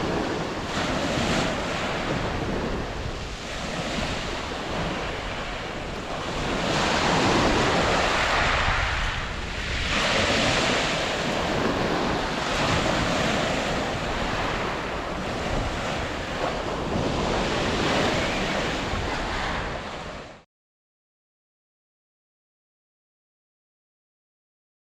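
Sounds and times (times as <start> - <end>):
waves breaking on beach: 0.0 - 20.4
wind rumbling on microphone: 0.0 - 20.4.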